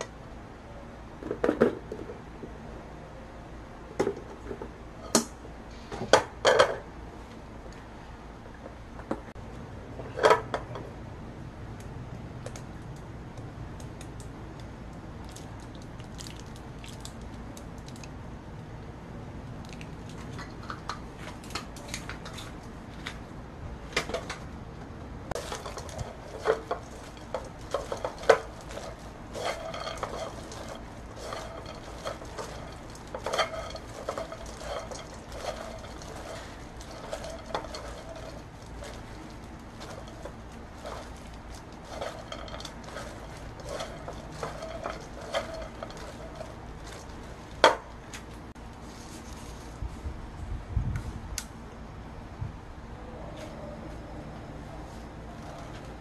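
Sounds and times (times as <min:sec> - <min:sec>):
low room hum: 0:00.0 - 0:56.0.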